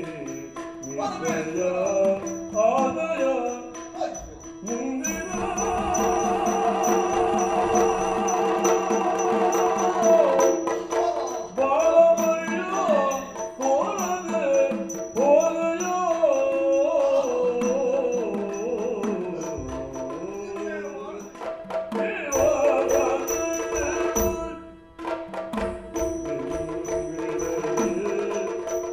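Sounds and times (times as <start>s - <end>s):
person singing ornamented melody: 0.0s - 25.0s, 25.9s - 28.9s
drum strokes: 0.0s - 28.9s.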